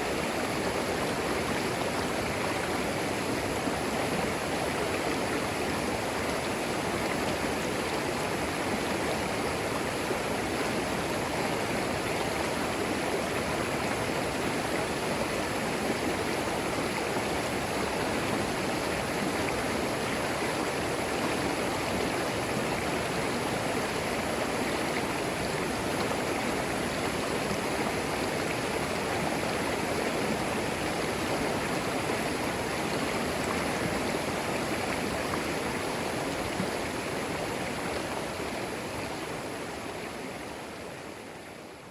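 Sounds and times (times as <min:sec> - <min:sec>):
creek babbling over stones: 0:00.0 - 0:41.9.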